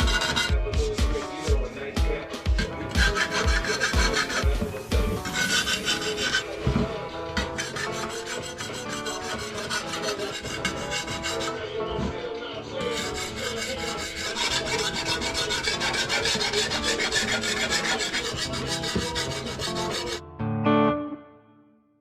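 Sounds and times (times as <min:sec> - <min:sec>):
metal rasping on knife blade: 0:00.0 - 0:20.2
background music: 0:00.0 - 0:22.0.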